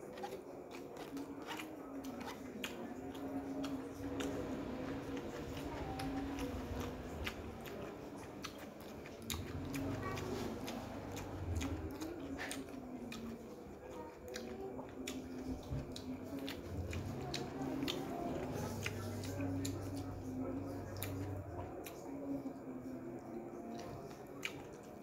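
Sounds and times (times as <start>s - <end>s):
wet chewing clicks and smacks: 0.0s - 22.3s, 23.3s - 25.0s.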